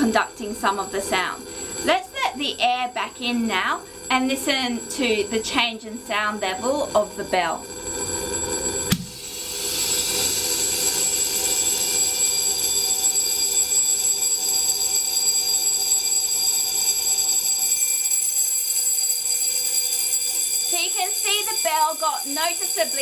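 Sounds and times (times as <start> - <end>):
electric bell ringing in glass jar: 0.0 - 23.0.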